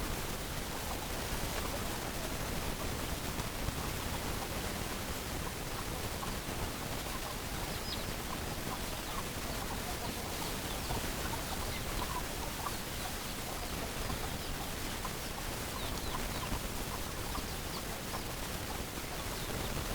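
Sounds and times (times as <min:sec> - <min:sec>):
background hiss: 0:00.0 - 0:19.9
hens clucking: 0:00.3 - 0:19.9.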